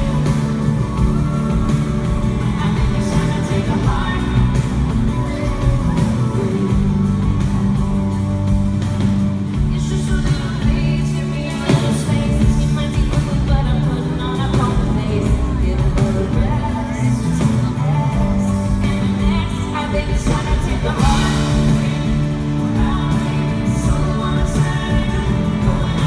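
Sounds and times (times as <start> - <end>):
man singing: 0.0 - 7.4, 9.5 - 26.0
acoustic guitar: 0.0 - 26.0
live country-pop band: 0.0 - 26.0.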